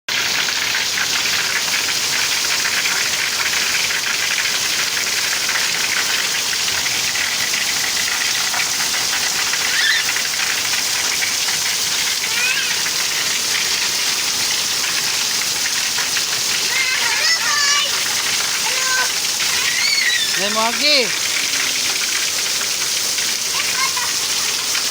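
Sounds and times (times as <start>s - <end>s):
heavy rain falling: 0.1s - 24.9s.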